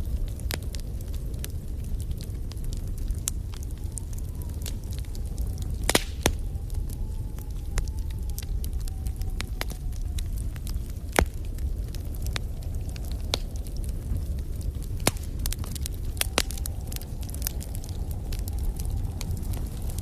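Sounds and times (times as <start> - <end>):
fireplace fire crackling and popping: 0.0 - 20.0
low rumble: 0.0 - 20.0.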